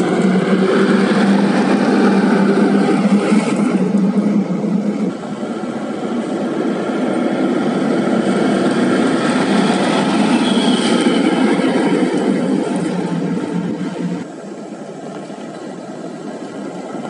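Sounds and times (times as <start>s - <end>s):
dump truck passing: 0.0s - 14.3s.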